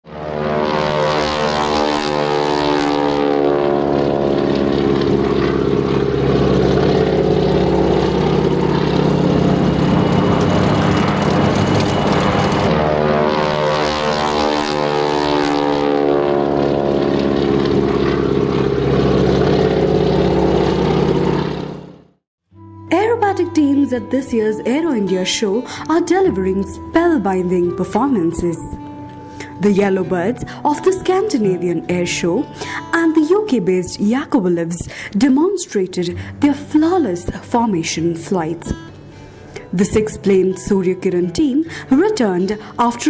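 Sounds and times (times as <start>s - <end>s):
propeller aircraft fly-past: 0.0s - 22.2s, 25.0s - 43.0s.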